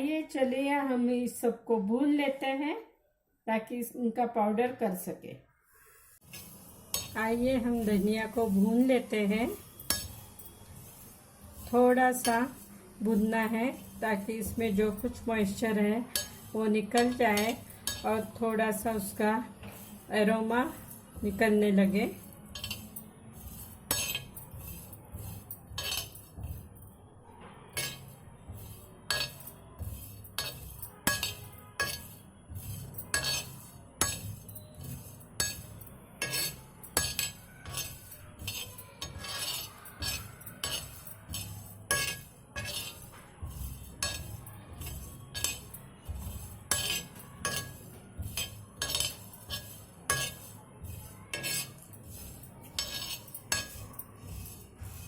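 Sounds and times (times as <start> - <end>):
utensil scraping a pan: 6.2 - 55.0.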